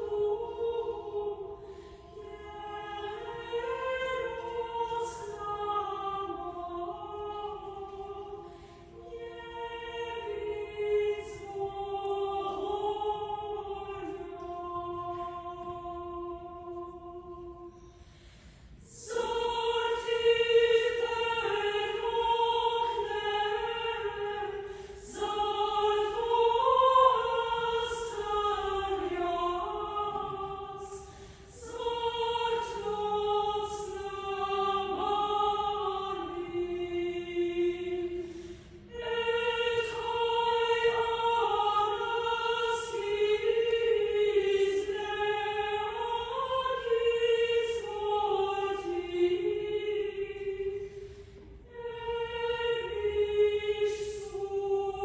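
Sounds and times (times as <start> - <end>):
women's choir singing a hymn: 0.0 - 55.0.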